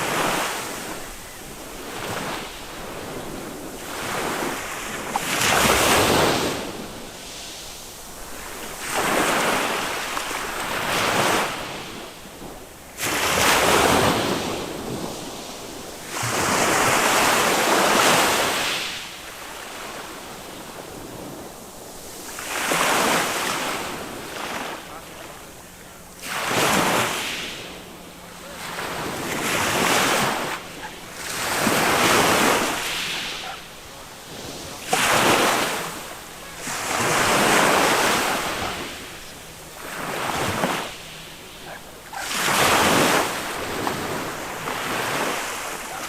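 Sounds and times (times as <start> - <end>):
small waves washing up beach: 0.0 - 46.0.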